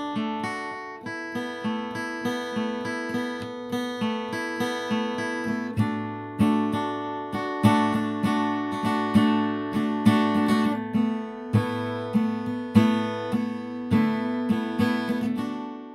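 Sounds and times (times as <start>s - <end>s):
acoustic guitar music: 0.0s - 15.9s.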